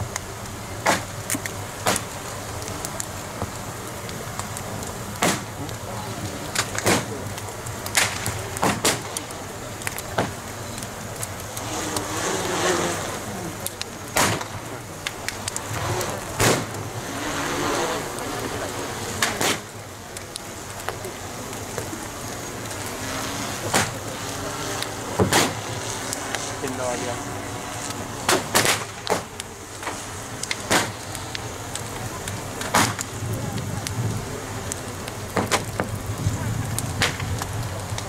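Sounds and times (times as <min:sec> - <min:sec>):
crowd chatter: 0:00.0 - 0:38.0
fire cracking: 0:00.0 - 0:38.0
rushing flames: 0:00.0 - 0:38.0.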